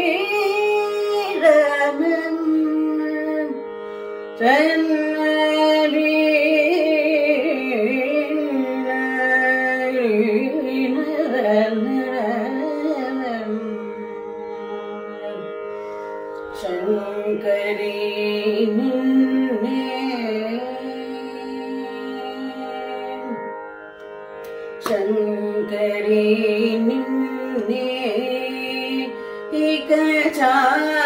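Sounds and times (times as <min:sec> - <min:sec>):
woman singing wordless melody: 0:00.0 - 0:03.6, 0:04.4 - 0:15.5, 0:16.5 - 0:23.4, 0:24.8 - 0:31.0.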